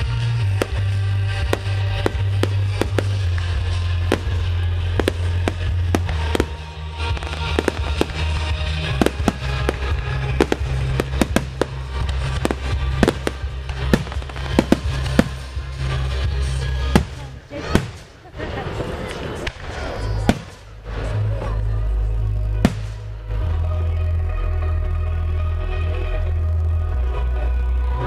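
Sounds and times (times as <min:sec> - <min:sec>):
music with low bass line: 0:00.0 - 0:17.5, 0:20.2 - 0:28.0
fireworks bursts and crackles: 0:00.0 - 0:24.0.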